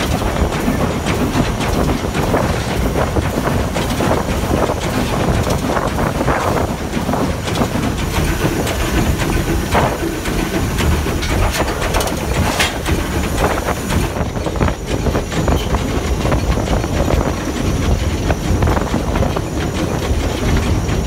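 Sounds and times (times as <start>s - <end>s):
steam locomotive rumbling on rails: 0.0s - 21.0s.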